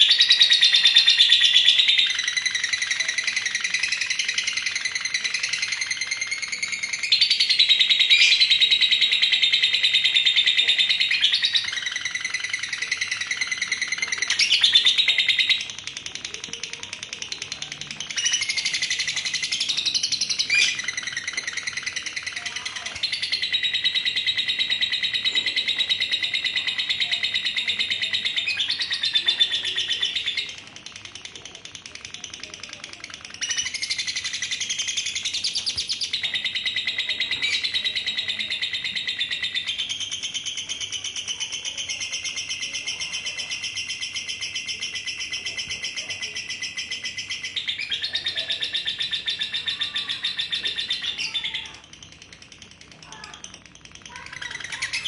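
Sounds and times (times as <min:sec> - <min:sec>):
lovebird rattling trill: 0:00.0 - 0:55.0.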